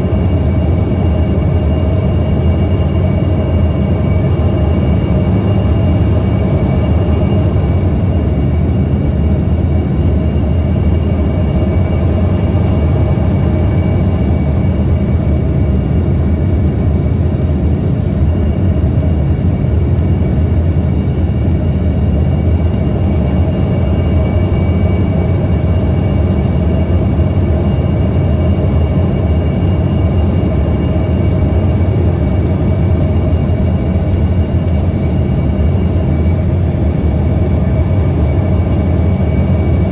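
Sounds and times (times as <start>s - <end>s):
airliner cabin engine rumble: 0.0s - 39.9s
faint steady whines: 0.0s - 39.9s.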